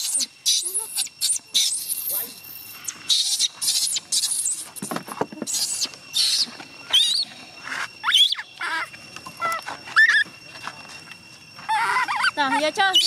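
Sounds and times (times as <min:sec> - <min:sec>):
baby monkey squealing: 0:00.0 - 0:04.9, 0:05.5 - 0:10.3, 0:11.7 - 0:13.0.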